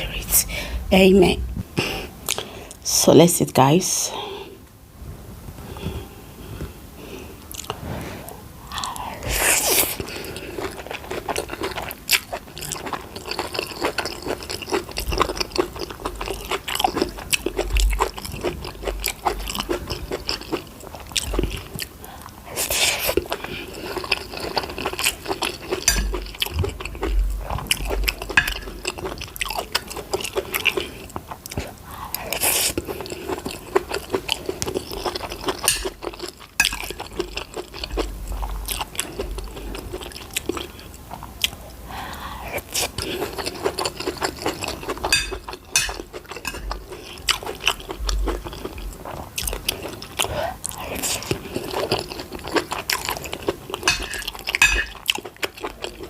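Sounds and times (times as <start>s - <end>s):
person chewing food: 1.8s - 2.8s, 5.8s - 56.0s.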